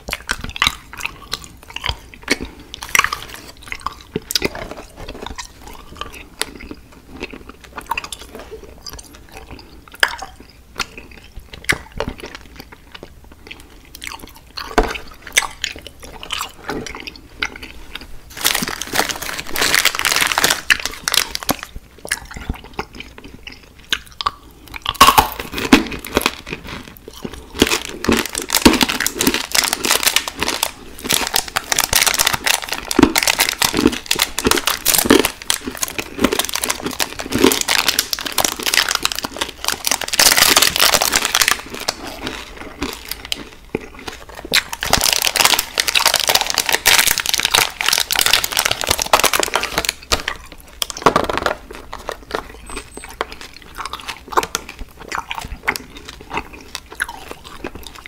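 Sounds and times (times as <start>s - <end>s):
plastic candy wrapper crinkling: 0.0s - 24.2s, 24.8s - 58.0s.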